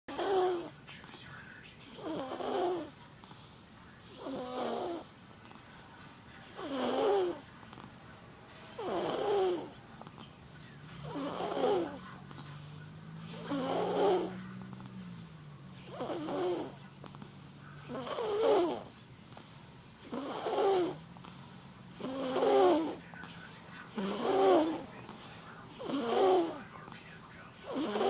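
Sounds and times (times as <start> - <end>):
baby snoring: 0.1 - 28.0.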